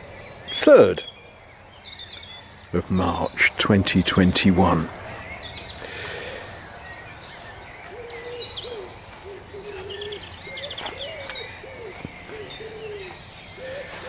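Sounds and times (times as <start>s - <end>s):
low repeated bird calls: 0.0s - 14.0s
small birds chirping and trilling: 0.0s - 14.0s.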